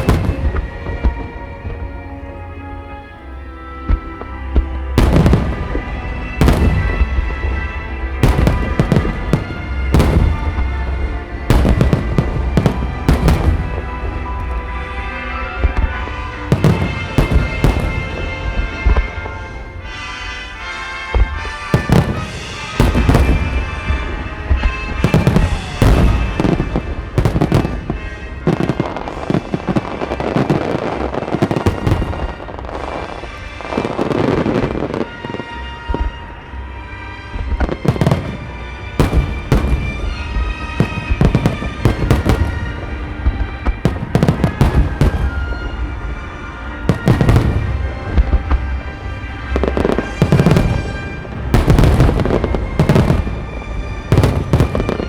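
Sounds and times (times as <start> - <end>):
fireworks bursting: 0.0 - 55.0
music playing: 0.0 - 55.0.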